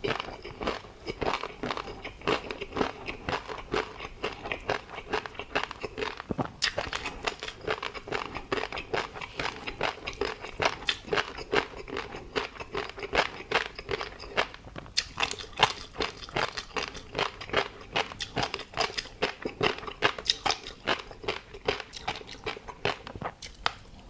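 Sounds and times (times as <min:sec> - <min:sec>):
chewing crunchy fish roe: 0:00.0 - 0:24.0.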